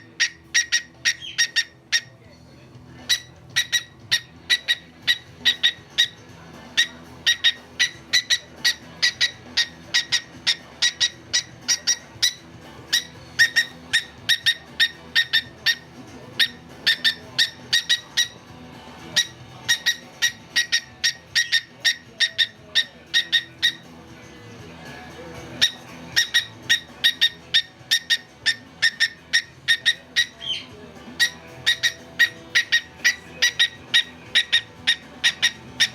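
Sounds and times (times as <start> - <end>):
faint background music: 0.0 - 35.9.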